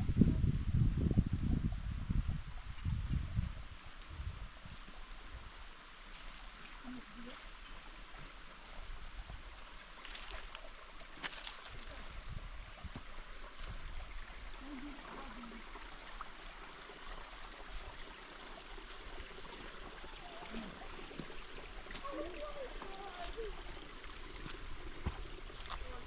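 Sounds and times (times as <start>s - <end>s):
creek water rushing: 3.7s - 26.0s.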